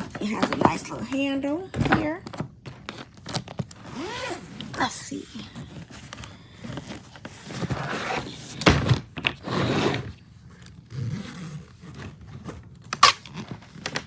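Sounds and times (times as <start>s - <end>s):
suitcase rustling and scraping: 0.0s - 14.0s.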